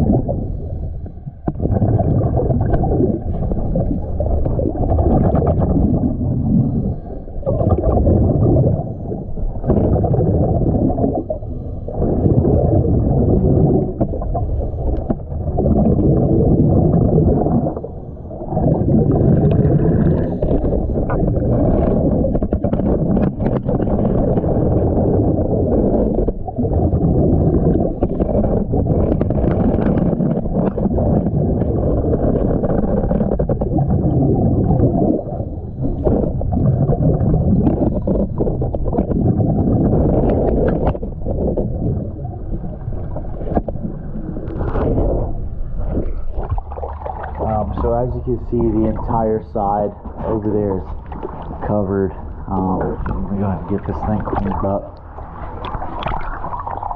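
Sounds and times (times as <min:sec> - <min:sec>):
exhaled bubbles gurgling: 0:00.0 - 0:56.9.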